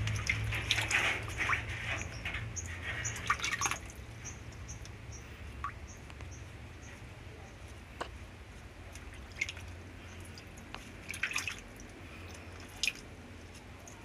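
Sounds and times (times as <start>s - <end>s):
water dripping and splashing: 0.0s - 6.8s, 8.0s - 14.0s
low steady hum: 0.0s - 14.0s.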